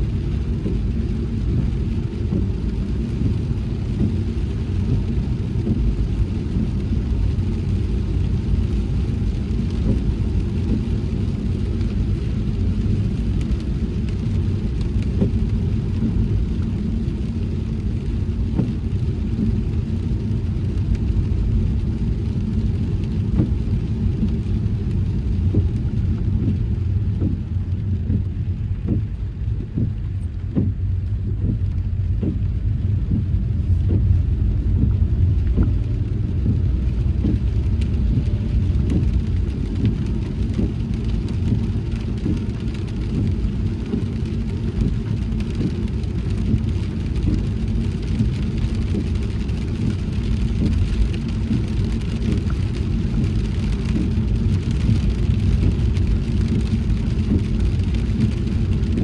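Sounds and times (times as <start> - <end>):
raindrops tapping on car: 0.0 - 59.0
tyres and engine rumbling: 0.0 - 59.0.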